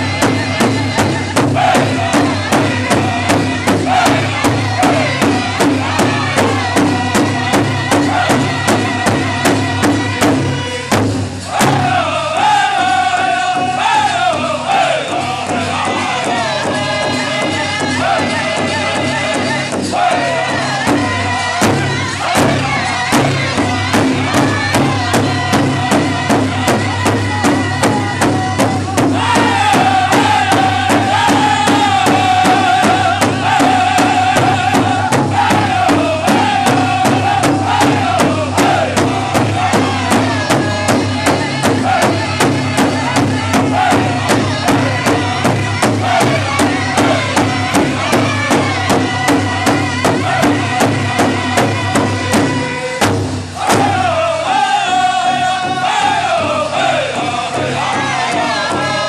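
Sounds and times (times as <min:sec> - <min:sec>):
big hide drum beating: 0:00.0 - 0:59.0
group singing in high unison: 0:00.0 - 0:59.0.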